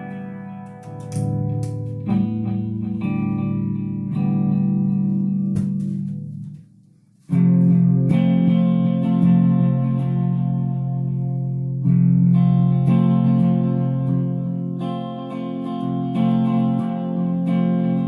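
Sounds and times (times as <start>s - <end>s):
guitar chords ringing: 0.0s - 18.0s.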